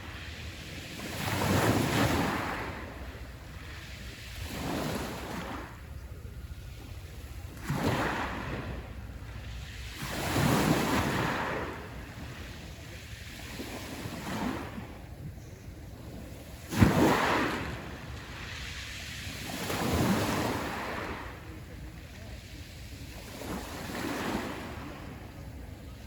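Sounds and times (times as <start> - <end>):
waves breaking on shore: 0.0 - 26.0.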